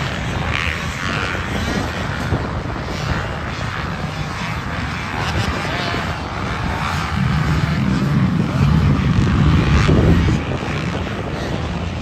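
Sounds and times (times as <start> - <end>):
distant dirt bike engines revving: 0.0 - 12.0.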